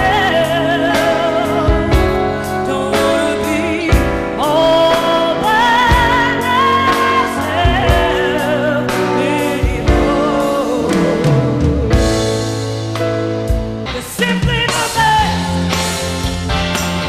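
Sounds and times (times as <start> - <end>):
woman singing with vibrato: 0.0 - 12.7, 14.0 - 15.5
drums: 0.0 - 17.0
keyboards: 0.0 - 17.0.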